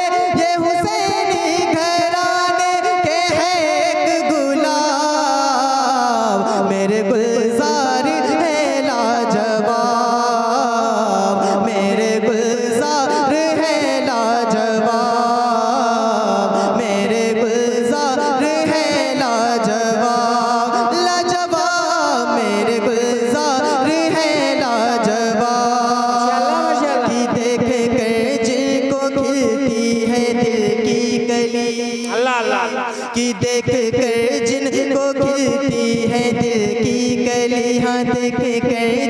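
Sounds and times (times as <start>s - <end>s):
man singing through microphone: 0.0s - 39.0s.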